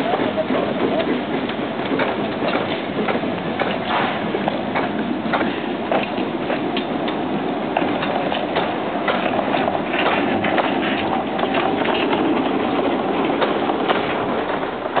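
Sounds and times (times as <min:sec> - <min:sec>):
rumbling clatter of carriages: 0:00.0 - 0:15.0
wheels clicking over rail joints: 0:00.0 - 0:15.0.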